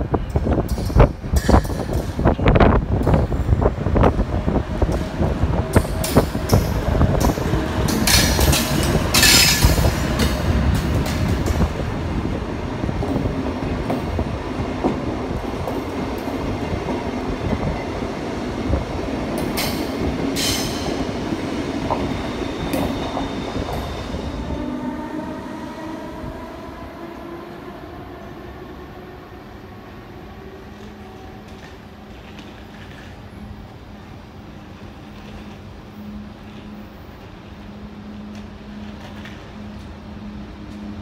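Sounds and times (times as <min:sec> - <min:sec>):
standing train humming: 0:00.0 - 0:41.0
train wheels rumbling on track: 0:00.0 - 0:41.0.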